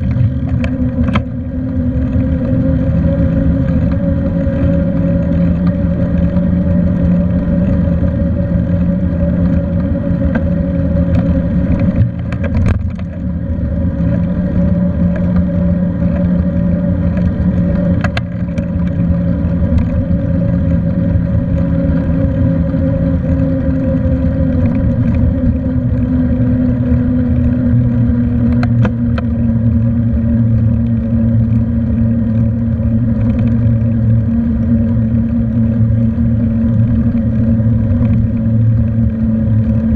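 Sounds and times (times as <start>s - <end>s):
humming drone: 0.0s - 39.9s
tyres rumbling: 0.0s - 39.9s
wind: 0.0s - 39.9s.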